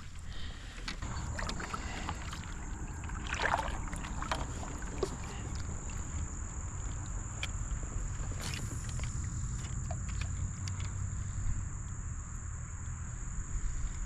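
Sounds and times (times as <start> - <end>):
legs wading through water: 0.0 - 11.3.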